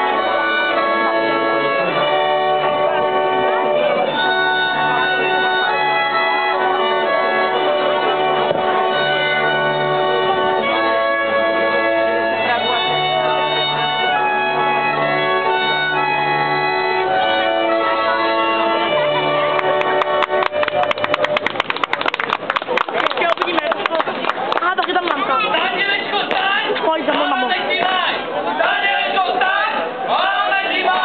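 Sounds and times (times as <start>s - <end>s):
instrumental folk dance music: 0.0s - 31.0s.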